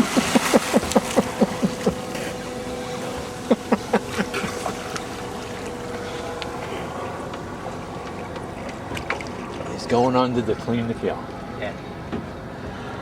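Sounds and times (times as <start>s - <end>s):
boat motor humming: 0.0s - 13.0s
water noise: 0.0s - 13.0s
wind: 0.0s - 13.0s.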